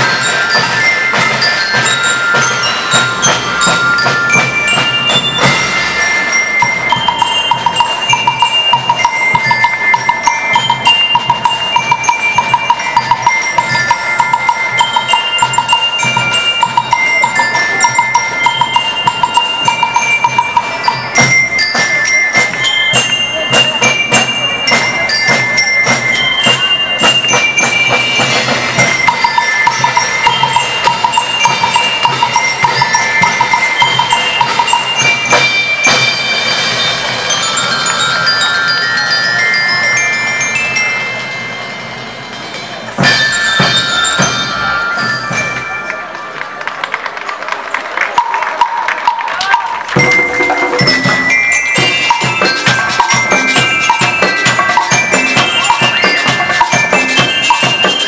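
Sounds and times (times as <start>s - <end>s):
cymbals: 0.0s - 46.4s, 48.2s - 58.0s
bell lyres melody: 0.0s - 58.0s.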